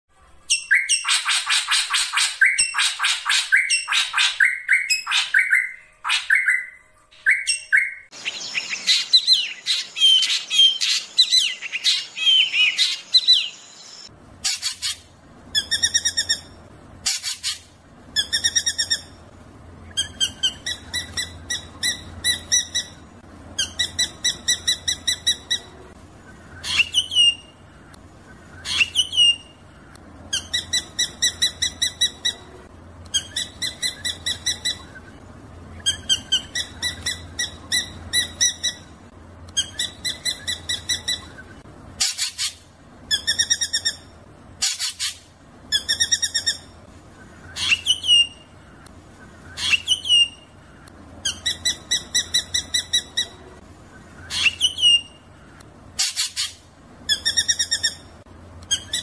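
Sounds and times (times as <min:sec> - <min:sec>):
faint low hum: 0:00.1 - 0:59.0
bird song with rapid notes: 0:00.3 - 0:59.0.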